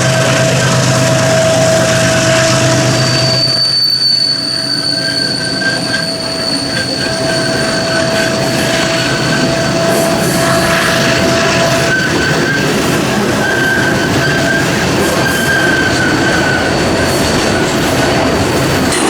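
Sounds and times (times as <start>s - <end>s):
high-pitched wheel squeal: 0.0s - 19.0s
train wheels squealing: 0.0s - 19.0s.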